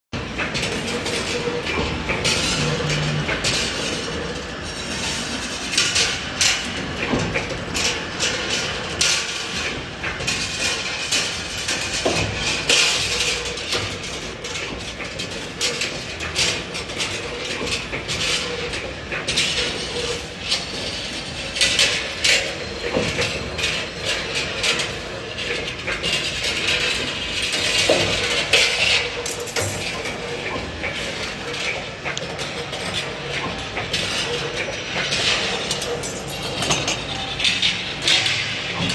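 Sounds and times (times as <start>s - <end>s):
sharp machine clicks and clacks: 0.2s - 38.9s
wire bending machine humming: 0.2s - 38.9s.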